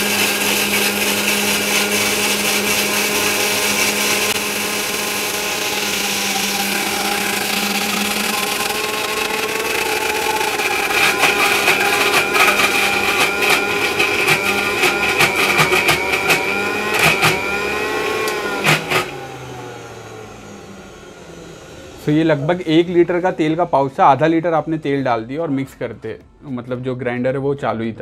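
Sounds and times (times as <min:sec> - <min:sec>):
mixer grinder whining: 0:00.0 - 0:24.6.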